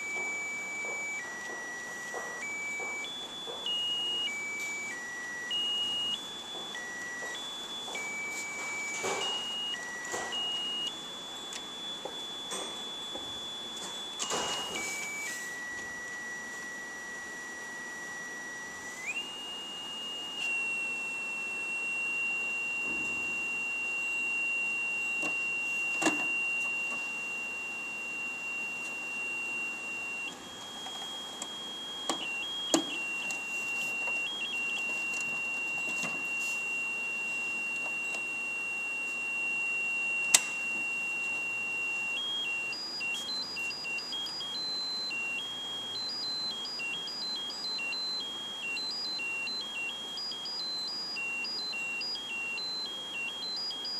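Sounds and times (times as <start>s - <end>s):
high electronic beep tone: 0.0s - 53.9s.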